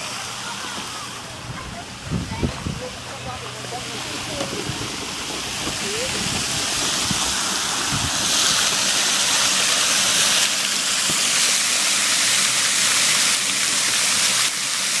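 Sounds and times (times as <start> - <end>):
fountain spray splashing on water: 0.0 - 15.0.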